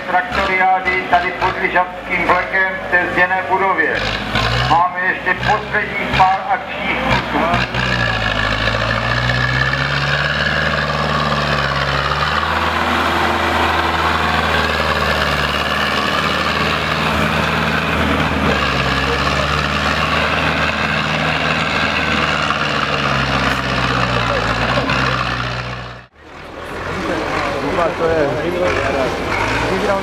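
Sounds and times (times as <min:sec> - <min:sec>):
tractor diesel engine working hard: 0:00.0 - 0:30.0.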